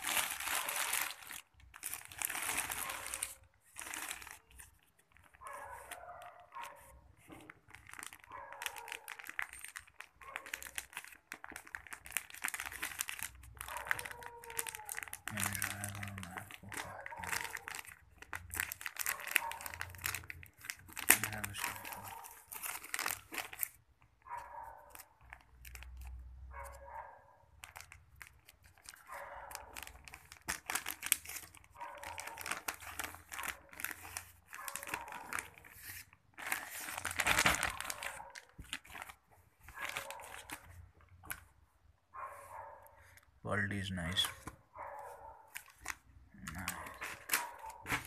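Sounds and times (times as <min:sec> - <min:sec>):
plastic packaging crinkling and tearing: 0:00.0 - 0:26.8, 0:27.5 - 0:41.6, 0:43.2 - 0:44.6, 0:45.5 - 0:48.0.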